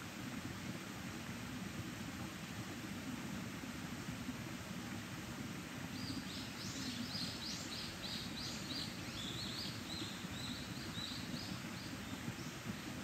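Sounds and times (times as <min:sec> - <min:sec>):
mountain stream babbling: 0:00.0 - 0:13.0.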